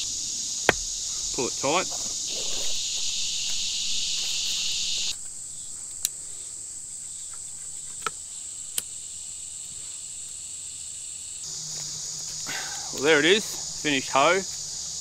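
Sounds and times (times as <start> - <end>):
insect chorus shrilling: 0.0 - 15.0.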